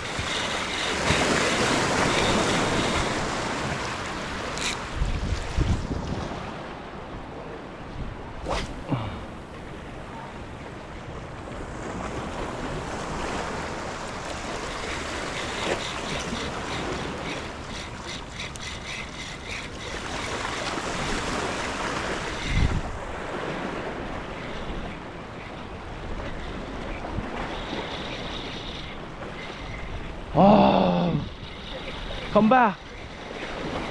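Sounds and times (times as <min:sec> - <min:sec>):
ocean surf washing ashore: 0:00.0 - 0:33.9
wind buffeting microphone: 0:00.0 - 0:33.9.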